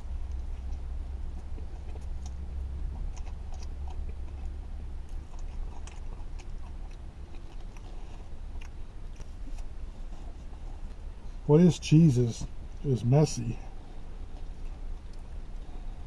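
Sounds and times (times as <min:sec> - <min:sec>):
person chewing crunchy food: 0:00.0 - 0:11.4, 0:12.4 - 0:16.0
steady low hum: 0:00.0 - 0:16.0.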